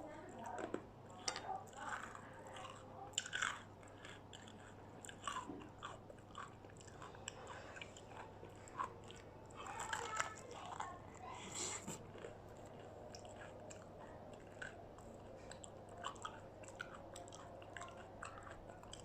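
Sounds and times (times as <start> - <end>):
chewing crispy fried food: 0.0 - 19.0.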